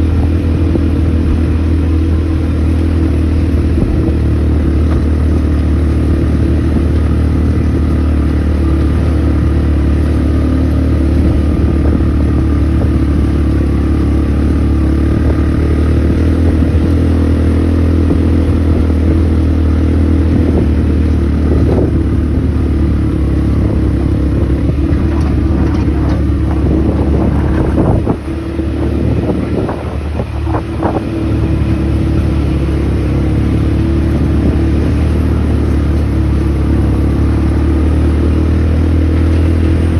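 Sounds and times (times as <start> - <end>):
quad bike engine droning: 0.0 - 39.9.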